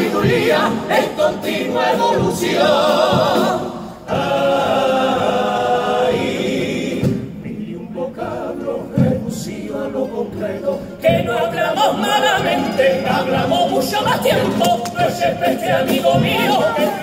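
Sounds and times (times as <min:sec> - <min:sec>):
male choir singing in harmony: 0:00.0 - 0:17.0.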